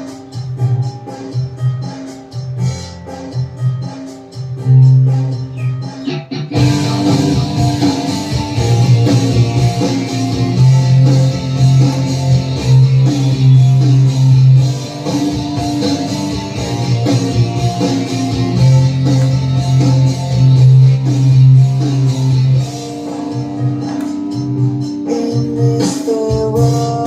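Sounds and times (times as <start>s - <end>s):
instrumental music led by guitar: 0.0s - 27.0s.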